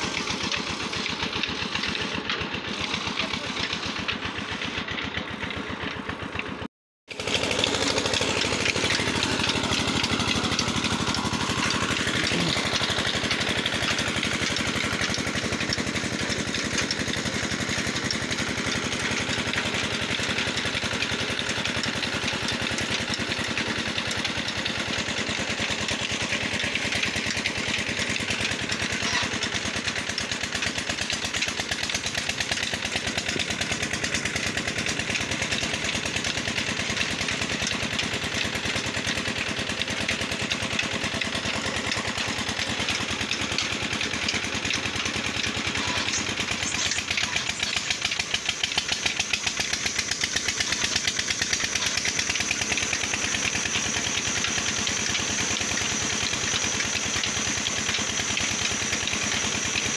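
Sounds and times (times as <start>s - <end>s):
band saw cutting wood: 0.0s - 59.9s
engine running with rapid beat: 0.0s - 59.9s.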